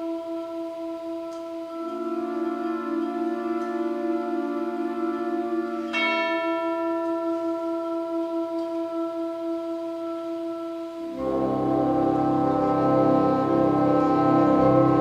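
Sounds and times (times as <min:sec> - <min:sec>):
wind orchestra playing: 0:00.0 - 0:15.0.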